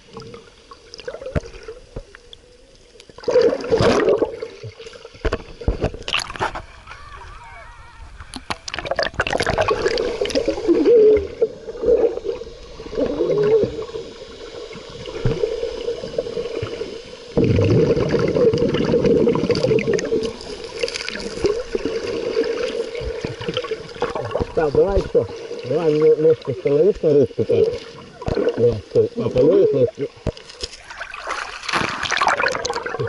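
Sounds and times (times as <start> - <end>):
steady hum: 0.0 - 30.8
sea water splashing around swimmers: 3.0 - 33.0.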